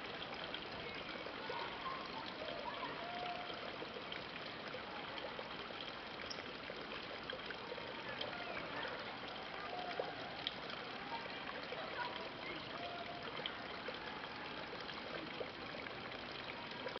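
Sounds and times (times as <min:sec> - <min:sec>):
stream water babbling: 0:00.0 - 0:17.0.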